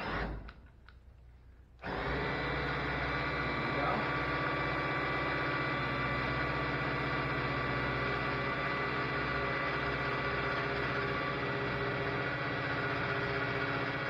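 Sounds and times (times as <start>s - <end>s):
electric drill motor running: 1.8s - 14.0s.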